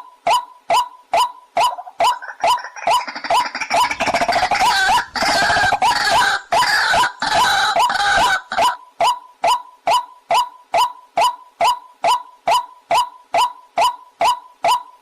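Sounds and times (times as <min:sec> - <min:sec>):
waterhen calling: 0:00.3 - 0:14.8.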